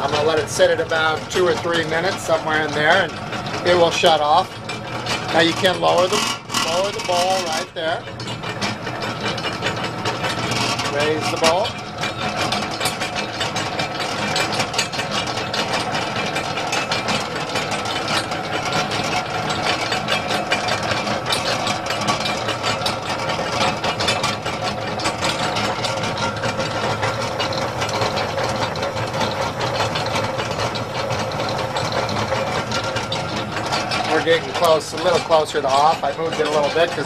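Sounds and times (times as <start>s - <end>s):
mixer motor and belt hum: 0.0s - 37.0s
rapid rattling tick: 0.0s - 37.0s.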